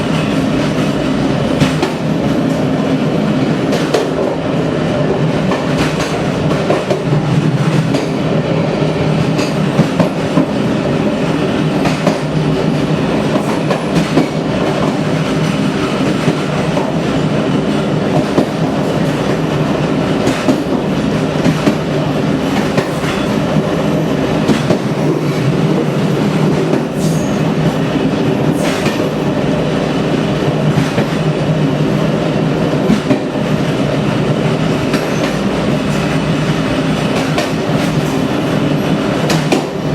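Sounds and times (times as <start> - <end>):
train wheels rumbling: 0.0 - 39.9.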